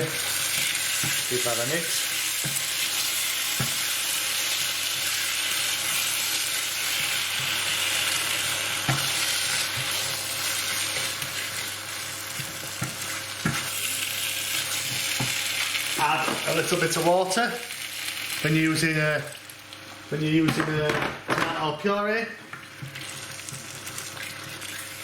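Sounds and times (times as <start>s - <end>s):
curry sizzling in a hot pan: 0.0s - 20.0s, 22.6s - 25.0s.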